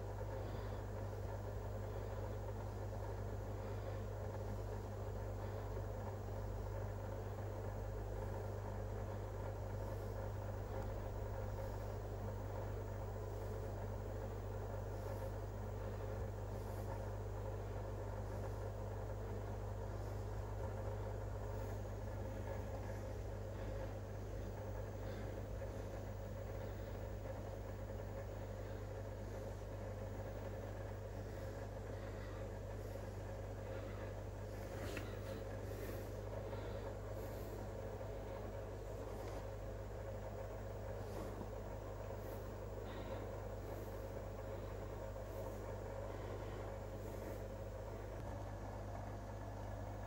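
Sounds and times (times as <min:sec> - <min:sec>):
aquarium equipment hum: 0:00.0 - 0:50.0.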